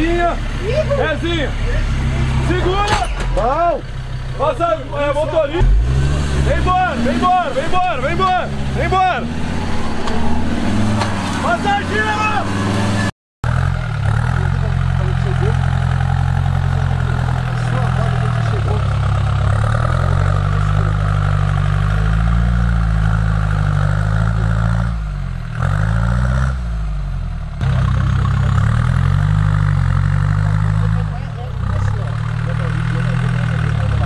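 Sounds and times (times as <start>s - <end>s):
off-road vehicle engine at low revs: 0.0s - 34.0s.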